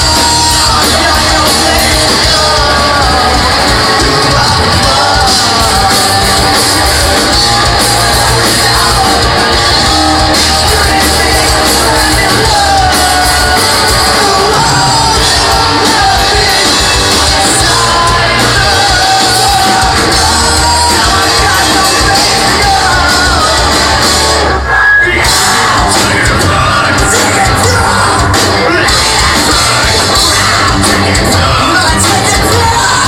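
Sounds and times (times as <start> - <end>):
live rock band playing: 0.0 - 33.0
person singing: 0.0 - 33.0.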